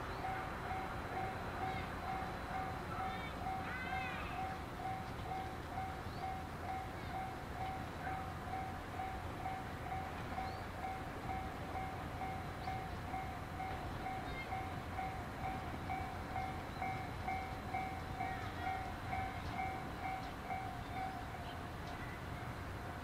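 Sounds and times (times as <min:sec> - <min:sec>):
low rumble of approaching railcar: 0:00.0 - 0:23.0.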